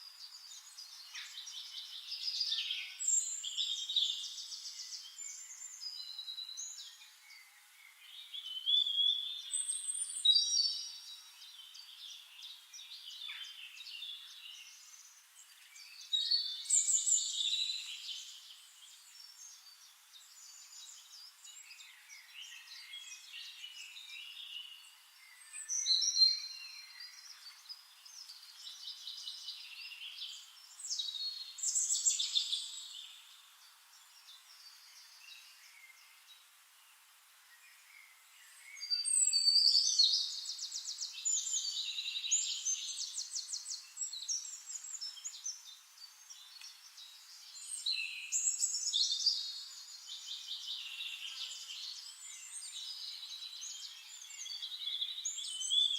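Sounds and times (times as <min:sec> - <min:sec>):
small birds chirping and trilling: 0:00.0 - 0:55.9.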